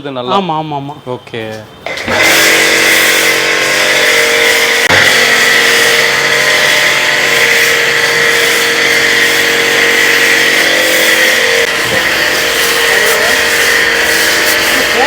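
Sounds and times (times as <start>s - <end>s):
pressure washer motor hum: 1.8s - 15.0s
foam spray hiss: 2.0s - 15.0s.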